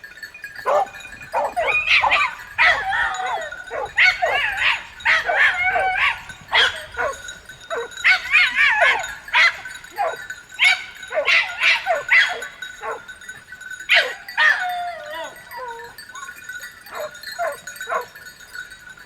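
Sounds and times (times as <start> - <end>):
hounds baying and yelping: 0.5 - 18.6.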